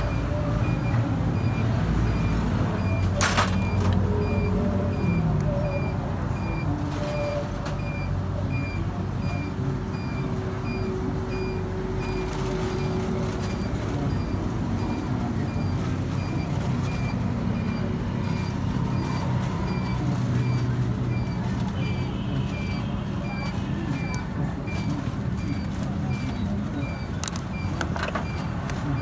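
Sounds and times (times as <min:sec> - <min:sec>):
low engine rumble: 0:00.0 - 0:29.0.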